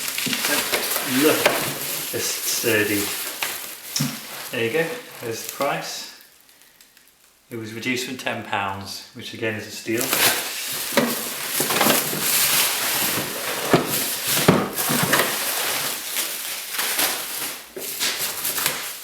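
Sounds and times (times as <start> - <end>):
packaging crinkling and rustling: 0.0 - 7.4, 9.9 - 19.0.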